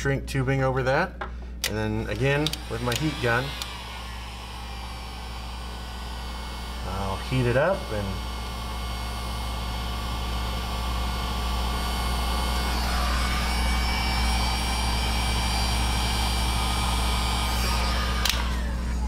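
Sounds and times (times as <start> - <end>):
heat gun blowing with motor whine: 2.2 - 19.0.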